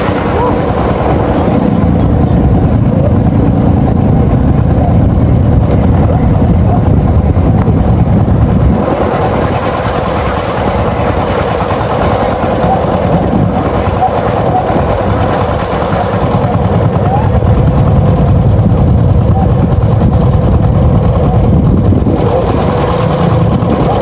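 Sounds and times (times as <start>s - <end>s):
motor engine running: 0.0s - 24.0s.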